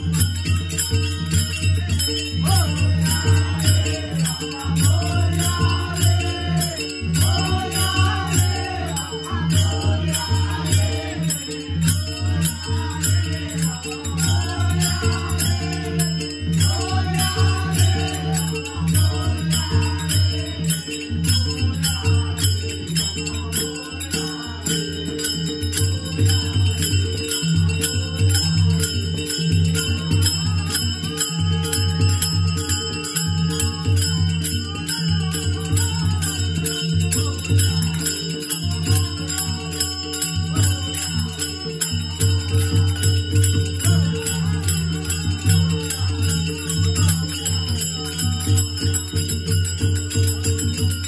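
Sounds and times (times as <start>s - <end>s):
hand cymbals ringing: 0.0s - 51.0s
harmonium: 0.0s - 51.0s
men singing in chorus: 0.0s - 51.0s.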